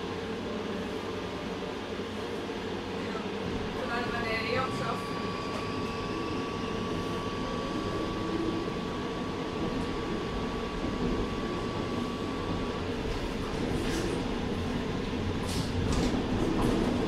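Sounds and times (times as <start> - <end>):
tram running and ventilation noise: 0.0 - 17.0.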